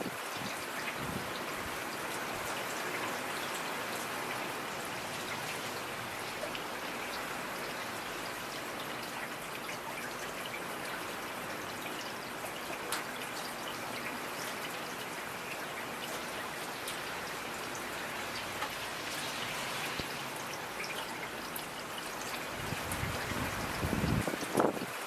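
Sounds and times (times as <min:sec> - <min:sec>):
raindrops ticking: 0:00.0 - 0:25.0
steady rain falling: 0:00.0 - 0:25.0.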